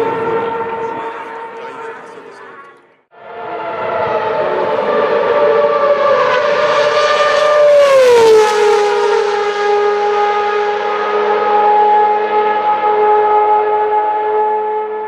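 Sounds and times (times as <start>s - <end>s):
race car engine screaming: 0.0s - 15.0s.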